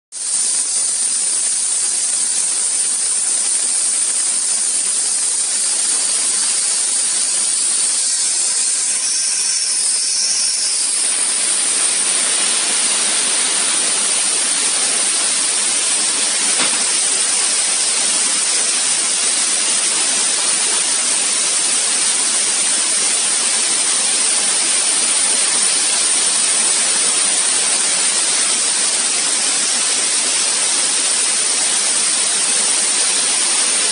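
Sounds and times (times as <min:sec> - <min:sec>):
laser cutter hissing: 0:00.2 - 0:33.9.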